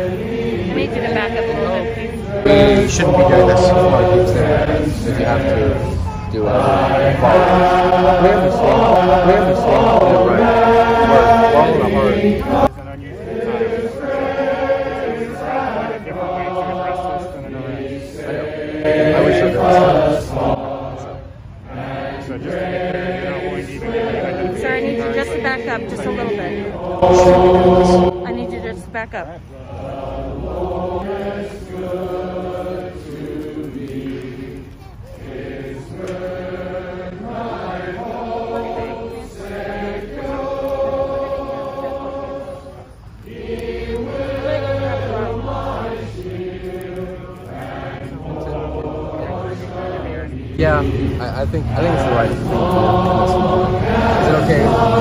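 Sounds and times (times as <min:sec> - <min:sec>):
crowd singing a hymn: 0:00.0 - 0:55.0.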